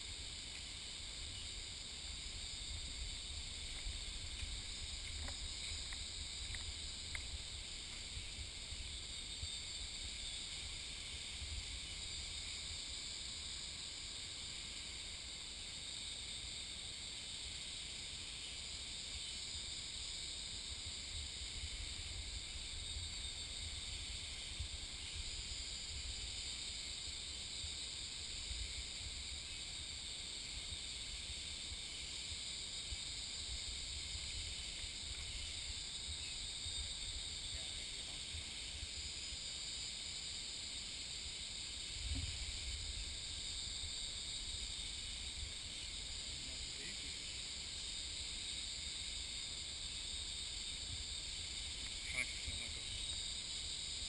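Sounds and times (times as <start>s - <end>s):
insects chorus: 0.0s - 54.0s.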